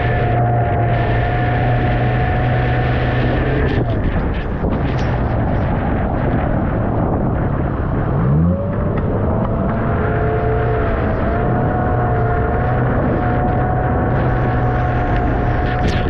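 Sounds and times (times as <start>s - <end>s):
heavy wind: 0.0s - 16.0s
outboard motor: 0.0s - 16.0s
water noise: 0.0s - 16.0s.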